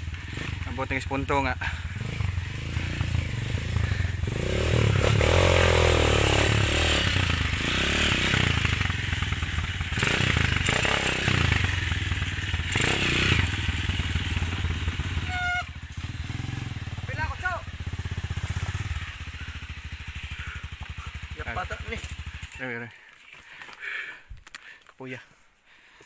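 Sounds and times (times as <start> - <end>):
motorcycle engine revving: 0.0 - 22.8.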